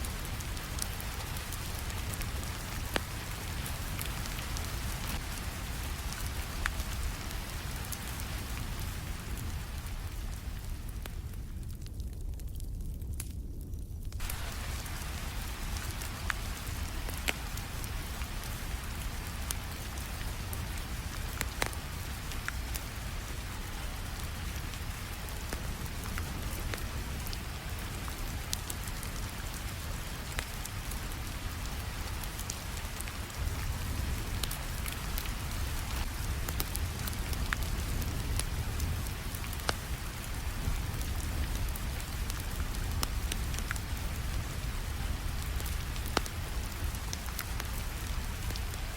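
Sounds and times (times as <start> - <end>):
steady rain hiss: 0.0 - 12.8, 14.0 - 48.9
wood fire crackling: 0.0 - 48.9.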